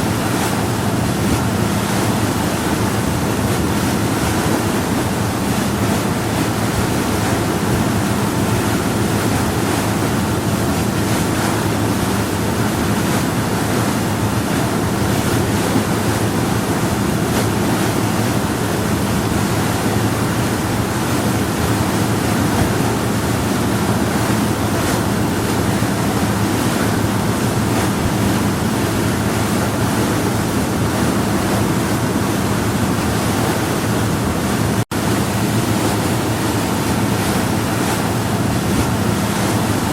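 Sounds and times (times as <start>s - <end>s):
boat engine drone: 0.0s - 39.9s
water washing along hull: 0.0s - 39.9s.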